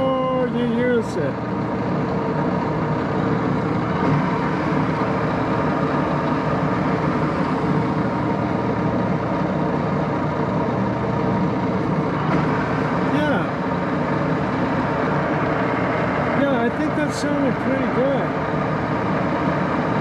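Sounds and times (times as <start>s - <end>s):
lathe gear train running: 0.0s - 20.0s.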